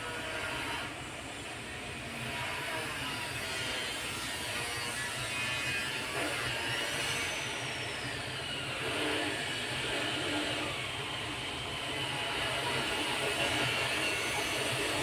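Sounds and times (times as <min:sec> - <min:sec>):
hot air blower hissing: 0:00.0 - 0:15.0.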